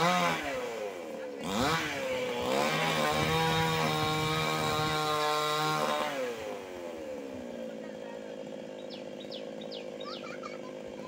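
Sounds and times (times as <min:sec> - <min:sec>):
chainsaw revving: 0:00.0 - 0:11.0.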